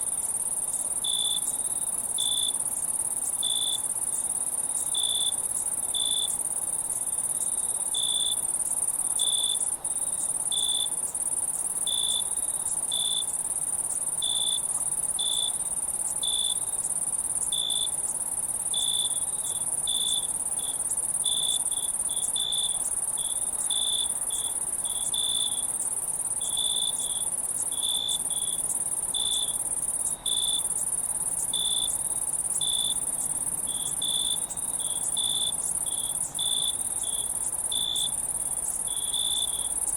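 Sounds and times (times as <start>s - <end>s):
cricket chirps: 0.0s - 39.9s
insect high-pitched trill: 0.1s - 39.9s.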